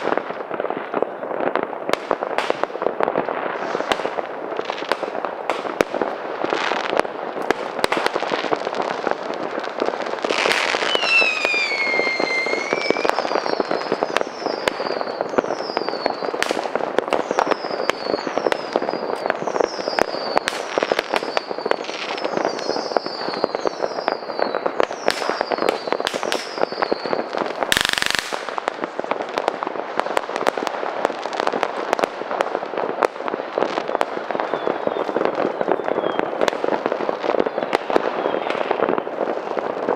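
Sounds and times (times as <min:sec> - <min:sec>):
firecrackers crackling and banging: 0:00.0 - 0:39.9
loud firework blast: 0:00.0 - 0:39.9
whistling fireworks: 0:00.0 - 0:39.9.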